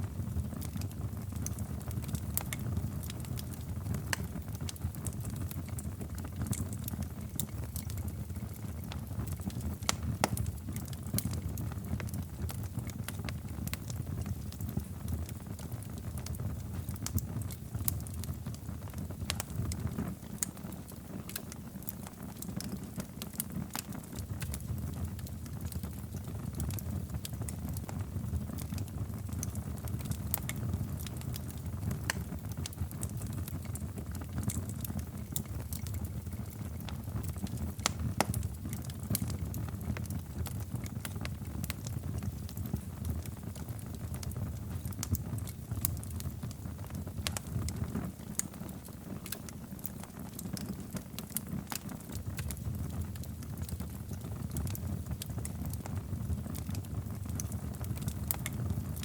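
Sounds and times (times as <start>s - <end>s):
low rumble of flames: 0.0s - 59.0s
fire pops and snaps: 0.1s - 59.0s.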